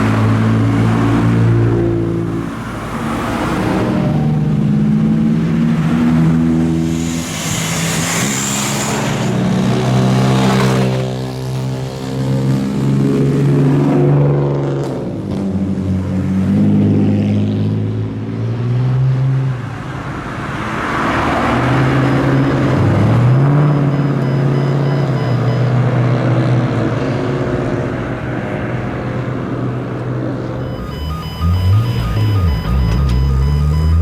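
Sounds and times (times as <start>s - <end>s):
car engines revving past: 0.0s - 34.0s.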